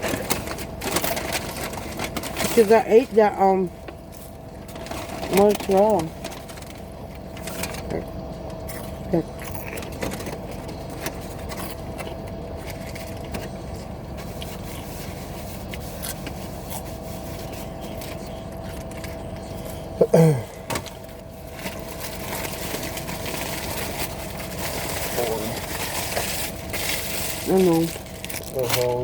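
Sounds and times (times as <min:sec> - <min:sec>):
low hum inside car: 0:00.0 - 0:29.0.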